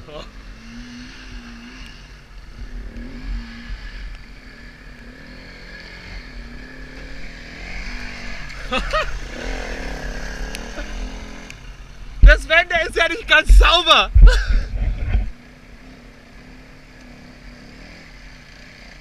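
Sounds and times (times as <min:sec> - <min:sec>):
dirt bike engine revving: 0:00.2 - 0:19.0.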